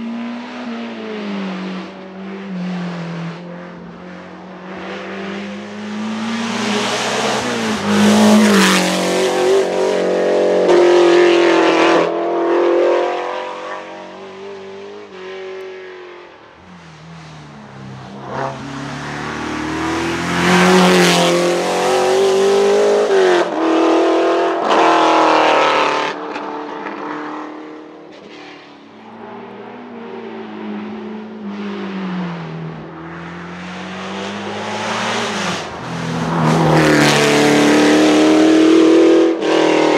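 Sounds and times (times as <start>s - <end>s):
race car engine revving: 0.0s - 16.6s, 17.4s - 28.4s, 29.0s - 39.9s.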